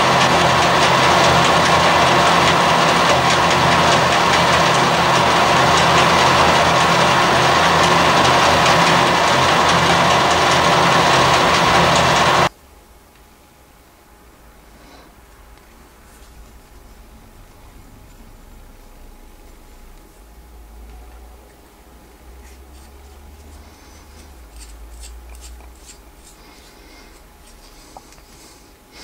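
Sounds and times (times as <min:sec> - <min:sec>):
lathe mechanical drone: 0:00.0 - 0:12.5, 0:15.6 - 0:29.0.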